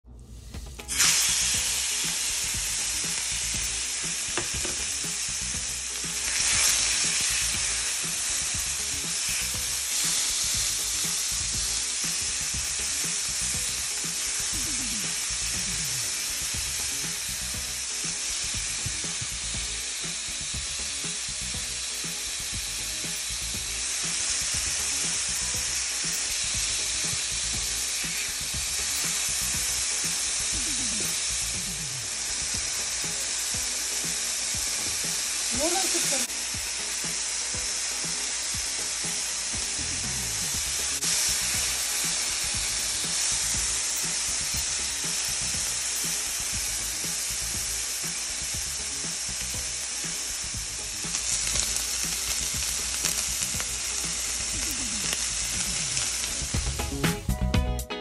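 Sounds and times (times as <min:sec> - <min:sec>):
chicken sizzling in hot oil: 0:00.2 - 0:57.4.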